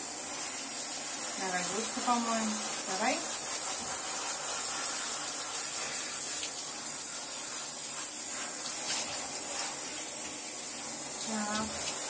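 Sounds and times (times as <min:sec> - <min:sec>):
shower water spraying: 0:00.0 - 0:12.0.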